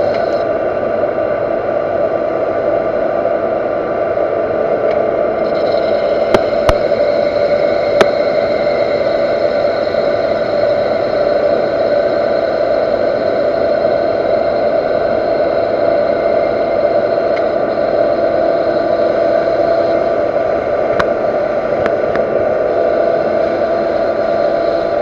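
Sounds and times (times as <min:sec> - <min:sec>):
metal lathe whining: 0:00.0 - 0:04.1, 0:04.8 - 0:25.0.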